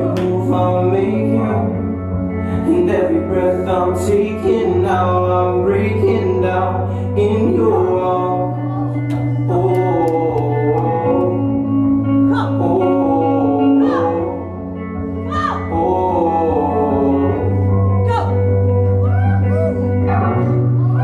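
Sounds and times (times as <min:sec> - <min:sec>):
slow pop ballad: 0:00.0 - 0:21.0.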